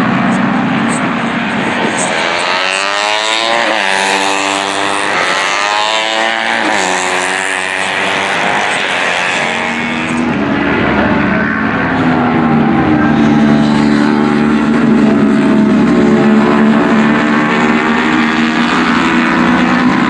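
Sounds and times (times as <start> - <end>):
racing motorcycles passing: 0.0 - 20.0.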